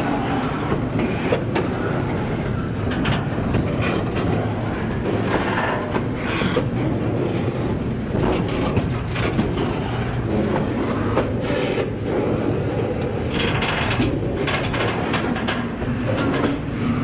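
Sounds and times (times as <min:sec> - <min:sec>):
train clanks: 0:00.0 - 0:17.0
wheels clacking over rail joints: 0:00.0 - 0:17.0.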